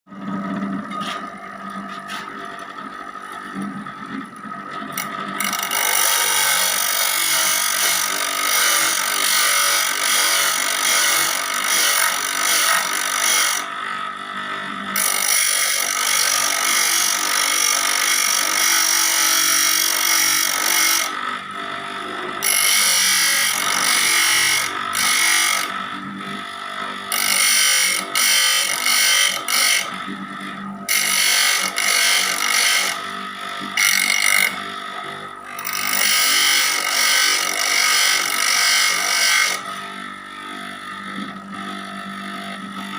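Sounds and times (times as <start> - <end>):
power grinder on saw blade: 0.1 - 42.9.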